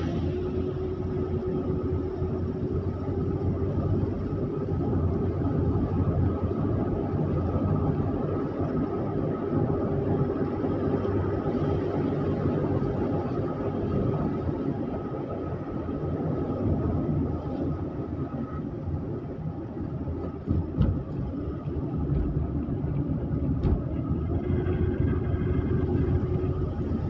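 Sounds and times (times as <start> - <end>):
vehicle engine and road rumble: 0.0 - 27.0.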